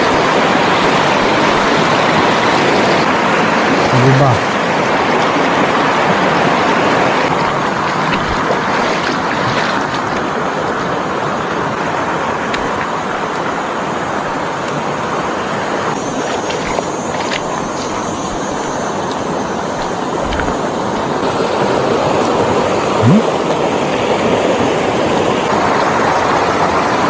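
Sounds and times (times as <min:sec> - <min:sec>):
stream rushing over stones: 0:00.0 - 0:27.0.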